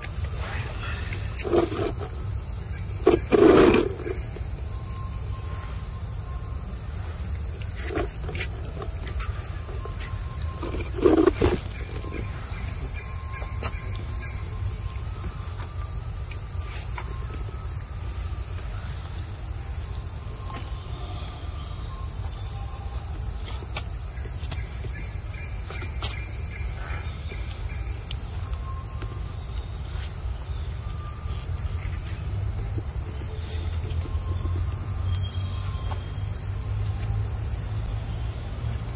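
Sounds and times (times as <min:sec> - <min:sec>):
forest insects droning: 0:00.0 - 0:38.9.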